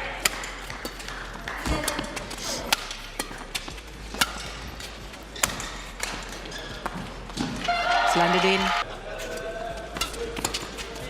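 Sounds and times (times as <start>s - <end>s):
arena background noise: 0.0s - 11.0s
rackets hitting shuttlecock: 0.0s - 11.0s.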